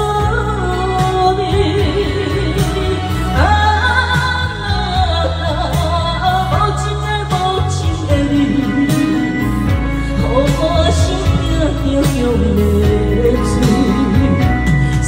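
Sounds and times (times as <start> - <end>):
pop ballad backing track: 0.0 - 15.0.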